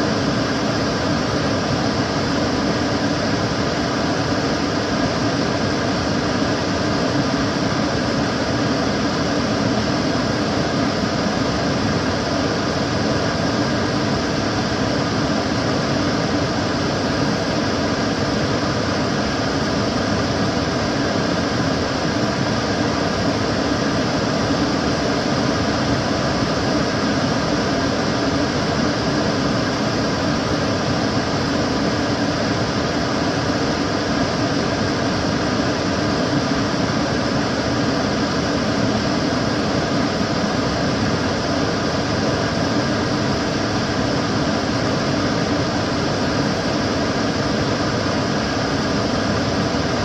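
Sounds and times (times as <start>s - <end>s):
extractor fan air rush: 0.0s - 50.0s.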